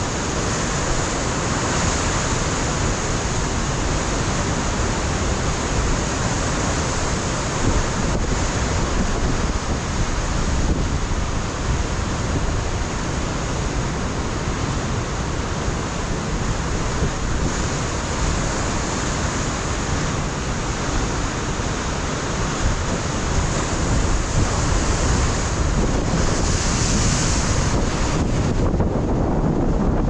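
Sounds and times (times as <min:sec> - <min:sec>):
surf washing against rocks: 0:00.0 - 0:30.0
wind buffeting microphone: 0:00.0 - 0:30.0.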